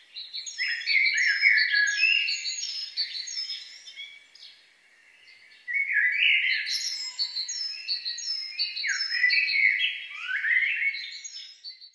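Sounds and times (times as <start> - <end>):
songbirds singing: 0.0 - 11.9.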